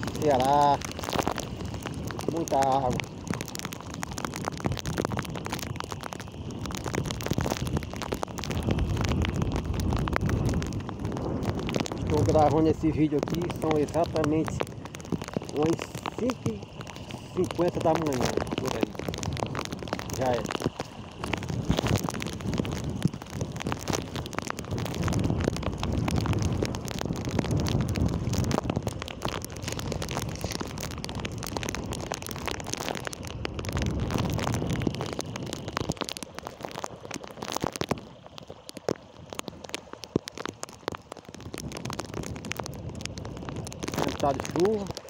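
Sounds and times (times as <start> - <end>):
heavy rain falling: 0.0 - 45.0
wind rumbling on microphone: 0.0 - 45.0.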